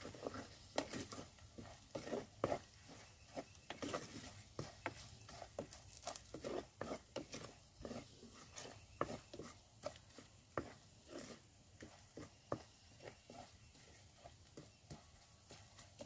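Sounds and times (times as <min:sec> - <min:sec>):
spoon scraping food in pot: 0:00.0 - 0:16.0.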